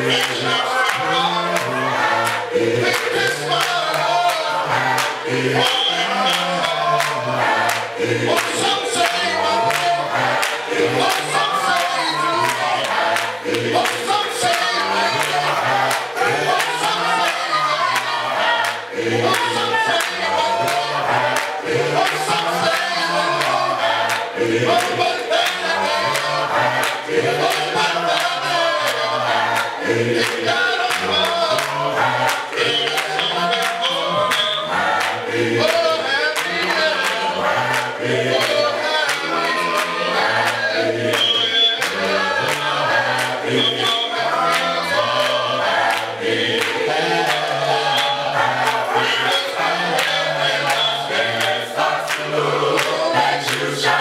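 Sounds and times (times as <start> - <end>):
gospel choir singing: 0.0 - 54.0
rhythmic hand clapping: 0.0 - 54.0.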